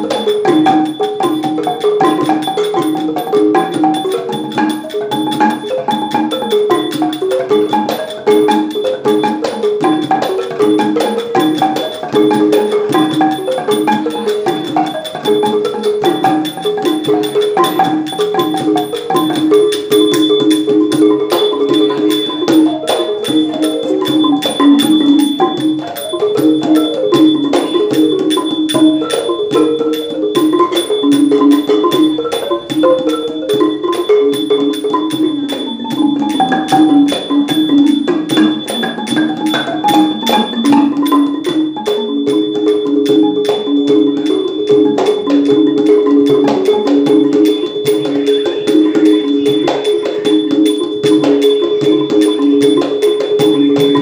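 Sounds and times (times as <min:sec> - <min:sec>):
hand drum: 0:00.0 - 0:54.0
small hand cymbals ringing: 0:00.0 - 0:54.0
wooden xylophone runs: 0:00.0 - 0:54.0.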